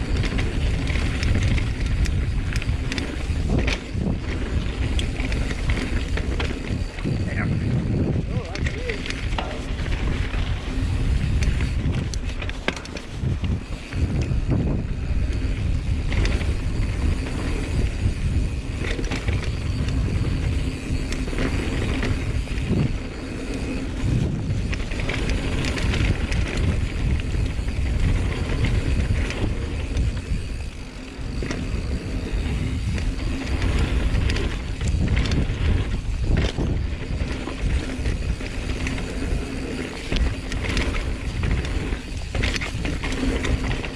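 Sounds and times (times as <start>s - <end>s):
bike knocking and rattling: 0.0s - 43.9s
tyre and wind rumble: 0.0s - 43.9s.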